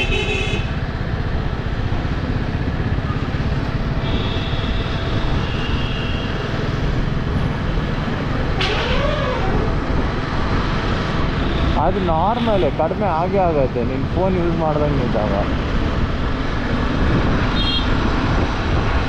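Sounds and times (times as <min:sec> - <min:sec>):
wind rush on microphone: 0:00.7 - 0:11.8, 0:13.4 - 0:19.0.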